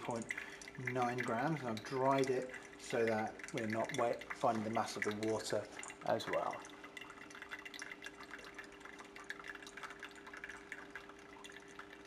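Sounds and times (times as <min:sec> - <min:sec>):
faint steady hum: 0:00.0 - 0:12.0
water dripping into glass beaker: 0:00.0 - 0:12.0.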